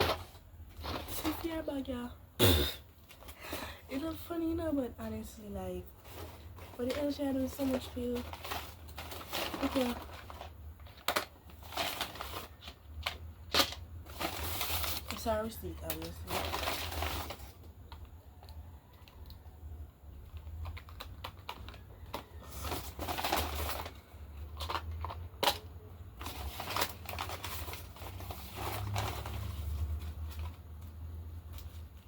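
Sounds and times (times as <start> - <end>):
paper bag crinkling and rustling: 0.0 - 1.9, 3.0 - 18.0, 20.2 - 32.0.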